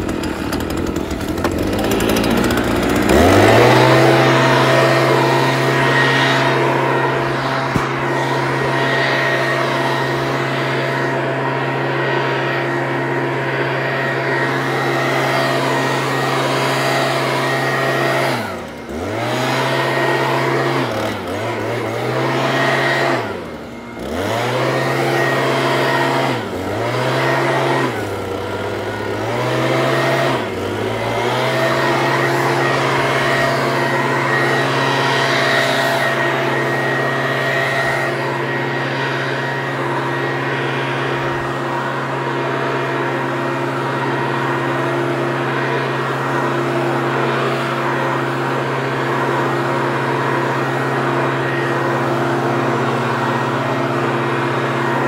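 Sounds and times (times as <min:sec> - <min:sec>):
leaf blower running: 0:00.0 - 0:55.0.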